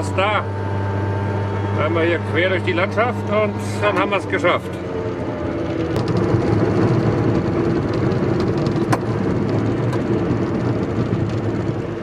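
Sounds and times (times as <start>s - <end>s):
three-wheeler engine running: 0.0s - 12.0s.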